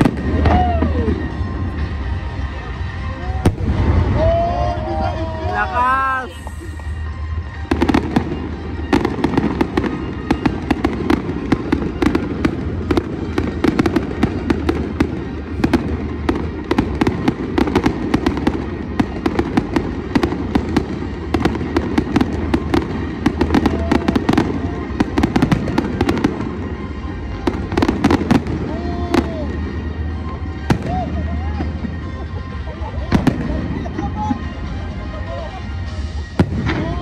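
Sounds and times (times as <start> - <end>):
fireworks bangs and crackles: 0.0 - 34.9, 35.6 - 37.0.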